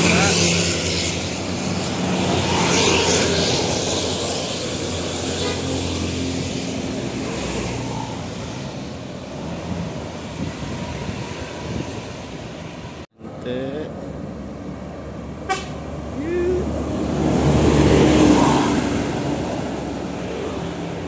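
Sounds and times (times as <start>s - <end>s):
buses driving past: 0.0s - 21.0s
diesel engine hum: 0.0s - 21.0s
tyre and road noise: 0.0s - 21.0s.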